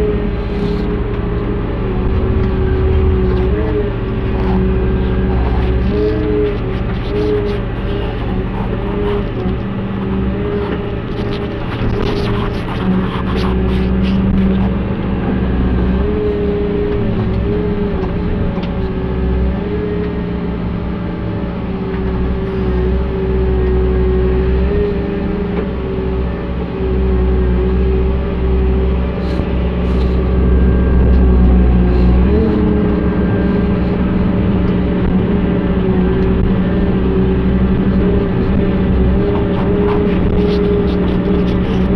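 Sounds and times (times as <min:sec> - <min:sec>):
excavator engine and hydraulics: 0:00.0 - 0:41.9.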